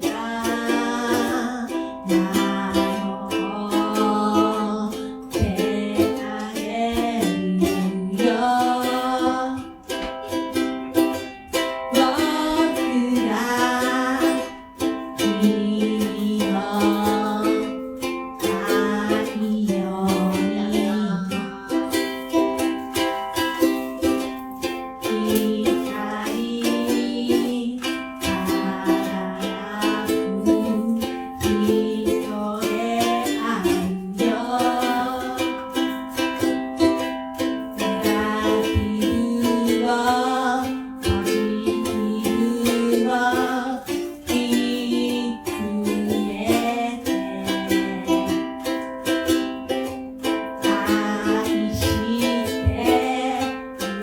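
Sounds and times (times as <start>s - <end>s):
person singing: 0.0s - 54.0s
ukulele strummed chords: 0.0s - 54.0s.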